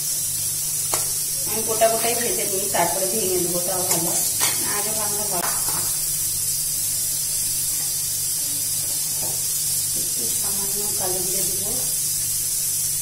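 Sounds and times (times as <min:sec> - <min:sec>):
oil sizzling in wok: 0:00.0 - 0:13.0.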